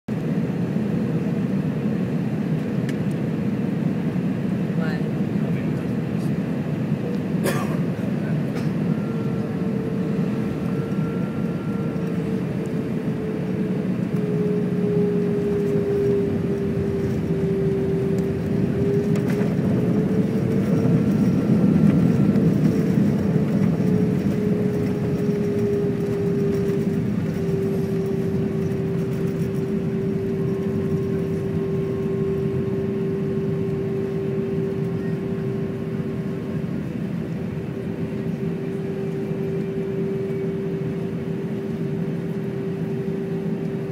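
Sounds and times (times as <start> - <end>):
airliner cabin engine rush: 0.1 - 43.9
humming engine tone: 0.1 - 43.9.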